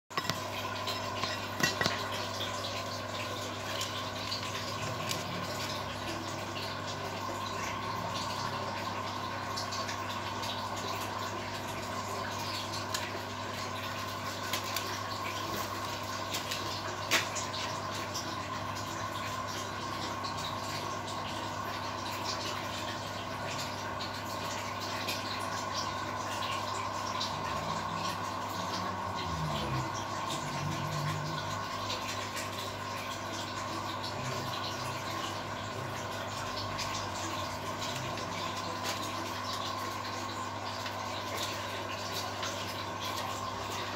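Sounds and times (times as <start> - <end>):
aquarium air bubbling: 0.1 - 43.9
constant low hum: 0.2 - 43.9.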